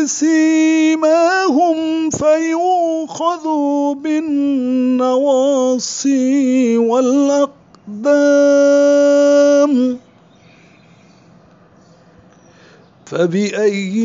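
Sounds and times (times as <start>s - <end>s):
person chanting recitation: 0.0s - 10.2s, 13.0s - 14.0s.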